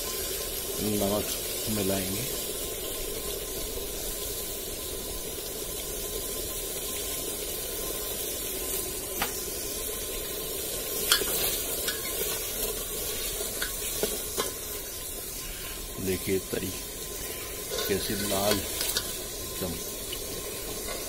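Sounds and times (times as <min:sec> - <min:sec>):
gravy sizzling in a metal pot: 0:00.0 - 0:21.0.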